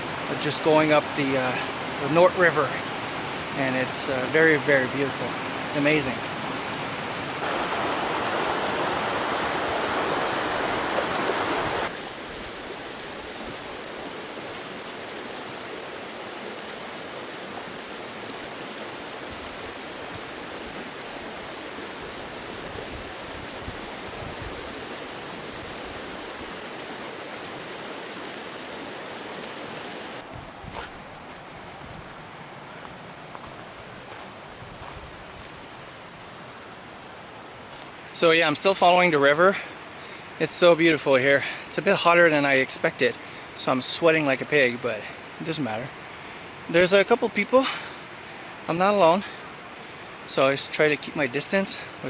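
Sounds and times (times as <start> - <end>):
stream and waterfalls rushing: 0.0 - 52.0.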